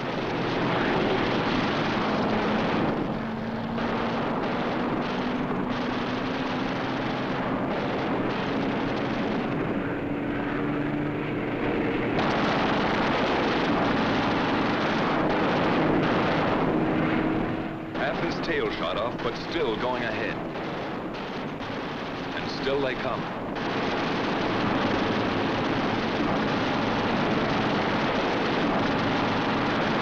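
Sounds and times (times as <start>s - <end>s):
dense rushing noise: 0.0s - 30.0s
propeller plane engines droning: 0.0s - 30.0s.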